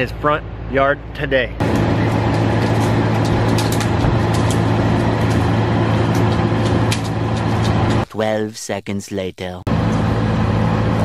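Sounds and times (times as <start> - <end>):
loader engine droning: 0.0 - 8.1, 9.7 - 11.0.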